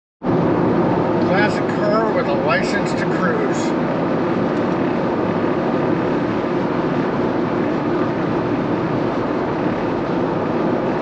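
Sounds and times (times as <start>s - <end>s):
car road and engine noise: 0.2s - 11.0s.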